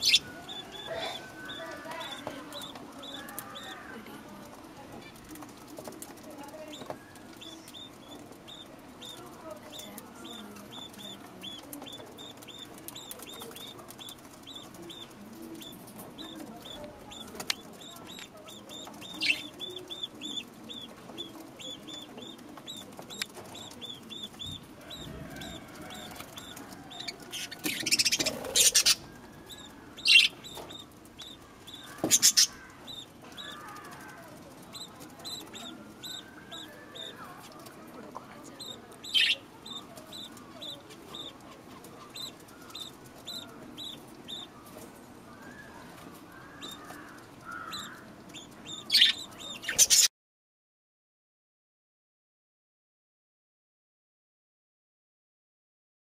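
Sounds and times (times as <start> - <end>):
budgerigars chirping: 0.0 - 4.0, 6.6 - 44.8, 45.4 - 50.1.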